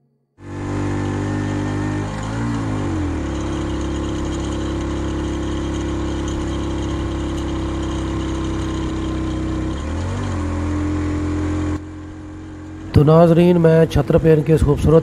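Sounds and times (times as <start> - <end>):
motorcycle engine running: 0.4 - 15.0.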